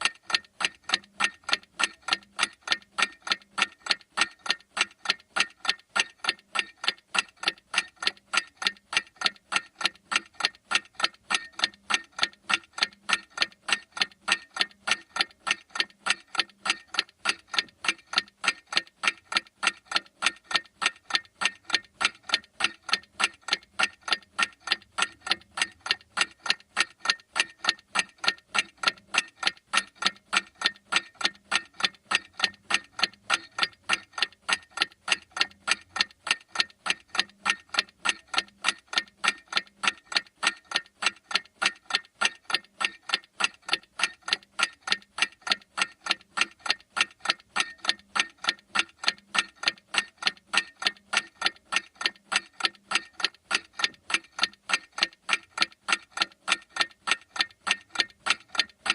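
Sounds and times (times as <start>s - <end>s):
clock ticking: 0.0s - 58.9s.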